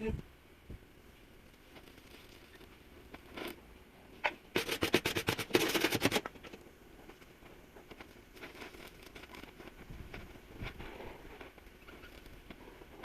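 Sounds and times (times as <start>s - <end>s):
rapid sharp crackling clicks: 1.4s - 3.6s, 4.2s - 13.0s.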